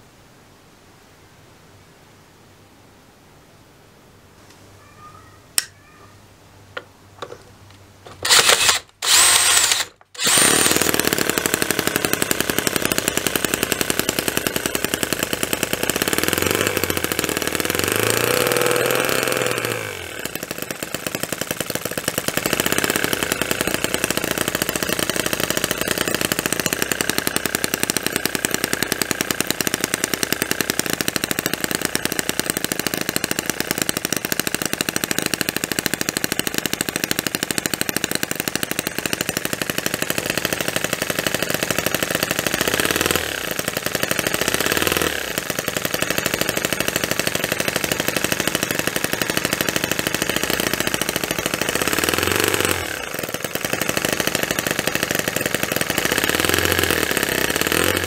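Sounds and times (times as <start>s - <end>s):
electric drill running: 8.1s - 58.0s
model engine running fast: 8.2s - 58.0s.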